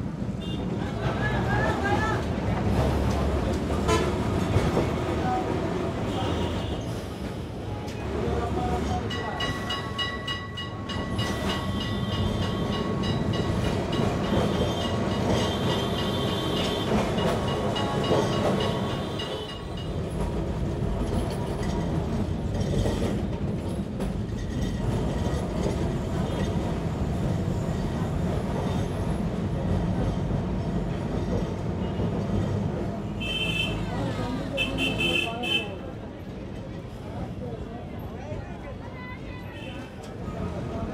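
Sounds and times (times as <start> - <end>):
tram wheels rumbling and rattling: 0.0 - 40.9.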